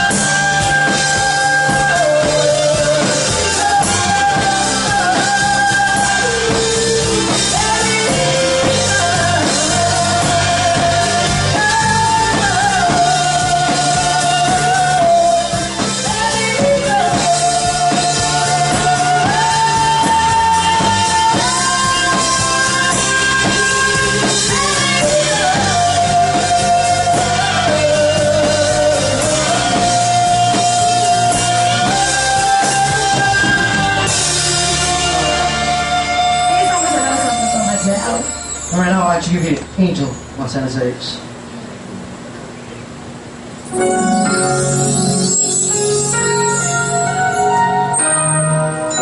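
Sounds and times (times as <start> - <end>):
lead singer holding long notes: 0.0 - 39.8, 43.7 - 49.0
steady bass line: 0.0 - 40.5
band playing a song: 0.0 - 41.5, 43.5 - 49.0.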